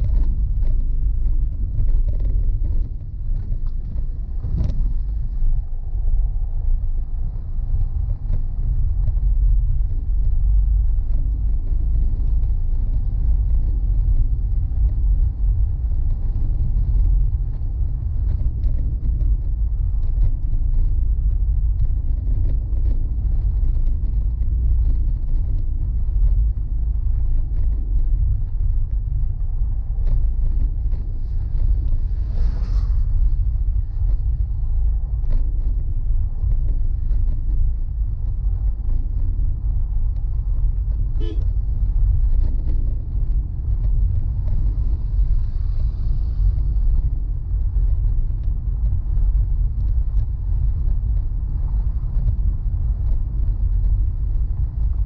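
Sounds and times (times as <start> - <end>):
light ticks and rattles: 0.0 - 55.0
tyres and engine rumble: 0.0 - 55.0.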